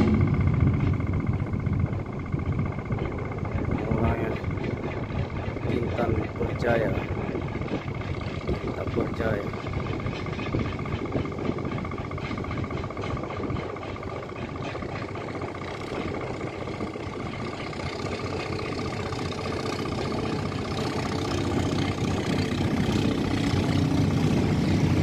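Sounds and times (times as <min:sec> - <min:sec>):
boat engine running: 0:00.0 - 0:25.0
high whine: 0:00.0 - 0:25.0.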